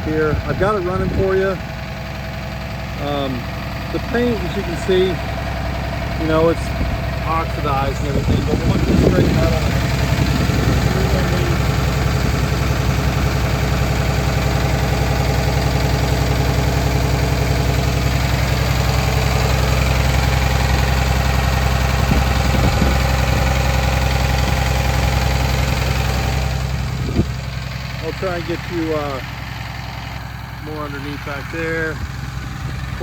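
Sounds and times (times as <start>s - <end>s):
diesel bus engine idling: 0.0s - 33.0s.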